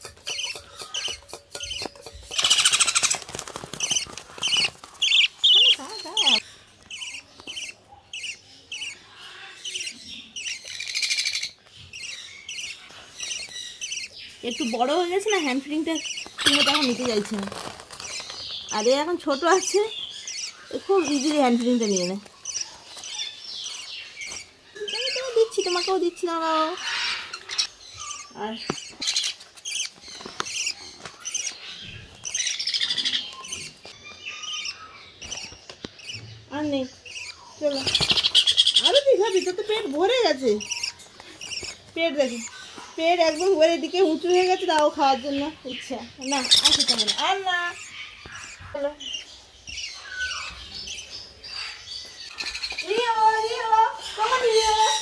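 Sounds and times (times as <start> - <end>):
parrot chicks chirping: 0.0 - 55.0.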